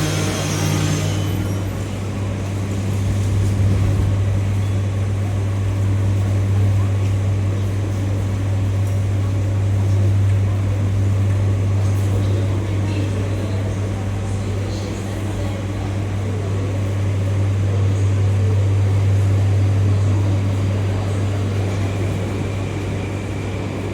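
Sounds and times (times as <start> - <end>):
metro train hum and rumble: 0.0 - 23.9.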